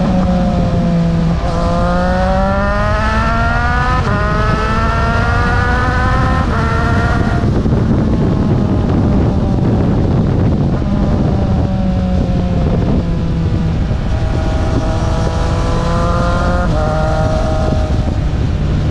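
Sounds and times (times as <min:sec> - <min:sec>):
motorcycle engine running: 0:00.0 - 0:18.9
wind and road noise: 0:00.0 - 0:18.9.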